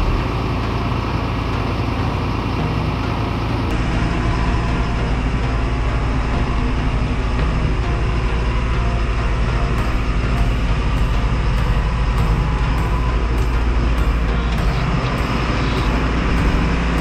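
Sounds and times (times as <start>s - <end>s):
low machine rumble: 0.0s - 17.0s.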